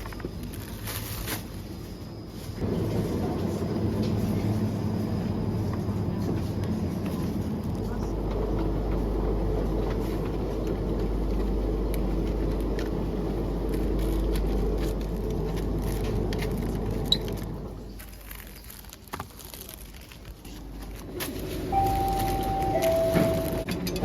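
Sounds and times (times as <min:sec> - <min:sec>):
moving vehicle rumble from inside: 0:00.0 - 0:24.0.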